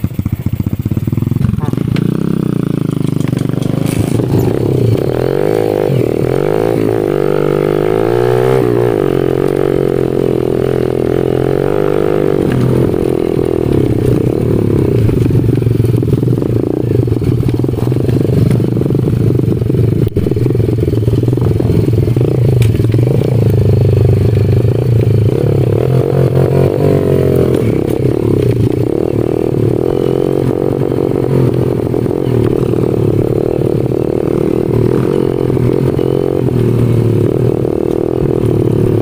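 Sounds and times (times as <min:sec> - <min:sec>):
motorbike engine revving: 0:00.0 - 0:39.0.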